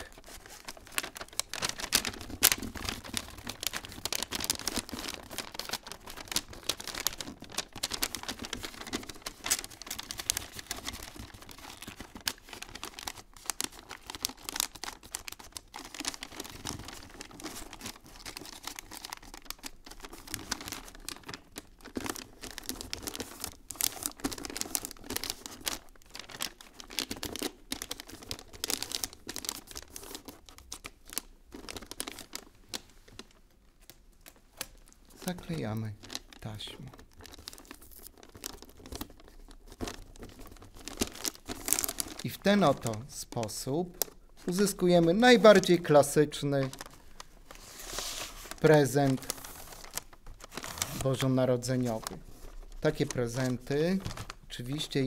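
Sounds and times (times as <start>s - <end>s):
wrapping paper crinkling: 0.0s - 55.0s.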